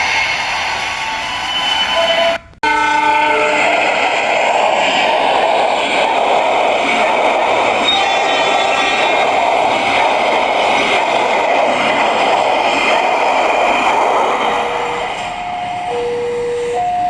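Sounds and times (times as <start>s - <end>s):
train passing close by: 0.0s - 17.0s.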